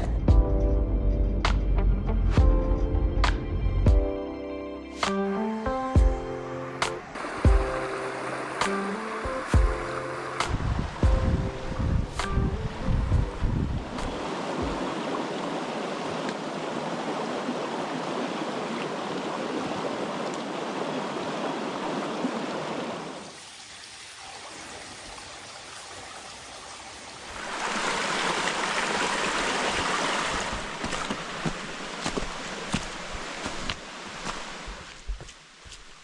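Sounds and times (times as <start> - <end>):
brook water running: 5.1 - 36.0.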